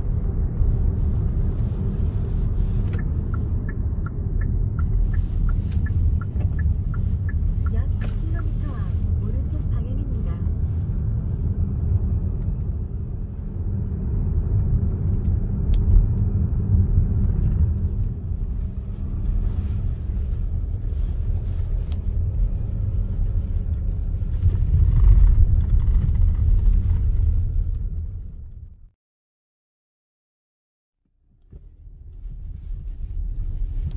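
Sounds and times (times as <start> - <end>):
car engine and tyre noise: 0.0 - 28.9, 31.2 - 33.9.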